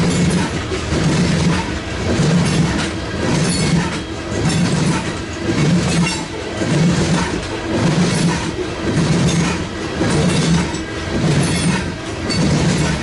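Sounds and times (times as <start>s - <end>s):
wheels clicking over rail joints: 0.0s - 13.0s.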